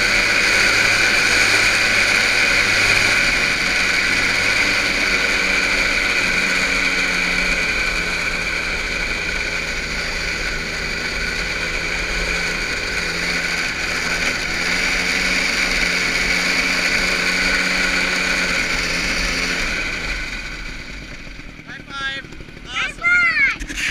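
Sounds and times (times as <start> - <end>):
small engine droning: 0.0 - 23.9.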